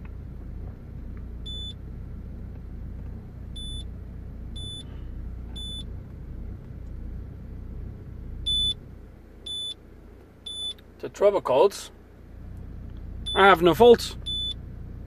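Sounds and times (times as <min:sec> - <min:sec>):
low rumble in car cabin: 0:00.0 - 0:15.0.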